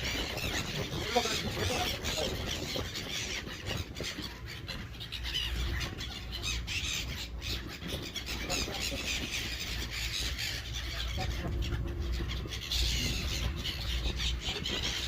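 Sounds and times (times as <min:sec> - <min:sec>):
seagulls squealing and squawking: 0:00.0 - 0:15.0.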